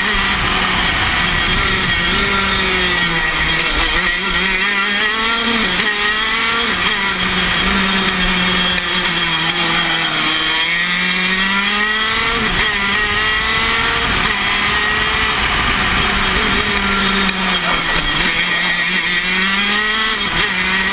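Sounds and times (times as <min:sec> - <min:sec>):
kart engine running hard: 0:00.0 - 0:20.9.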